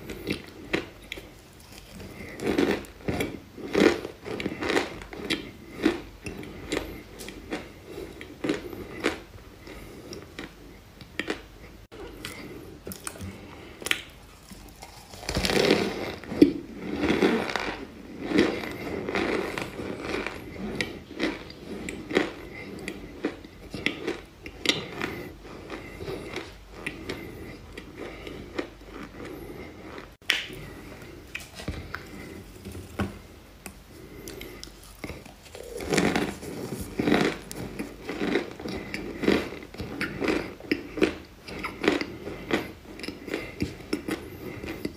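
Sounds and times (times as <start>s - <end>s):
crunching and chewing: 0.0s - 44.9s.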